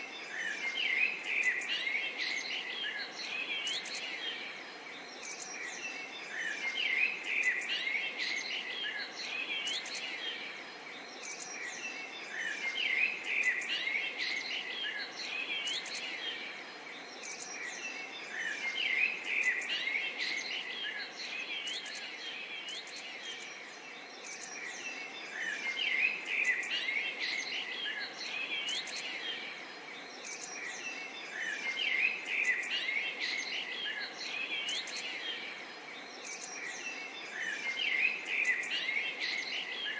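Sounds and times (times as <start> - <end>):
birds chirping and twittering: 0.0 - 39.9
steady background hiss: 0.0 - 39.9.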